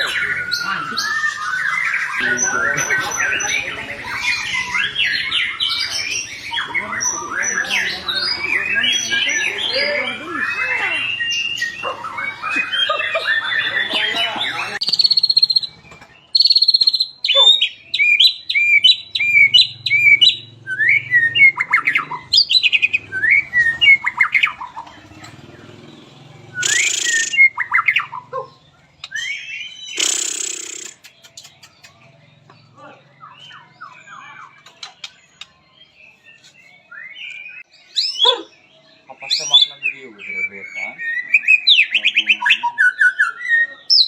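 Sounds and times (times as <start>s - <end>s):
bird singing: 0.0s - 44.0s.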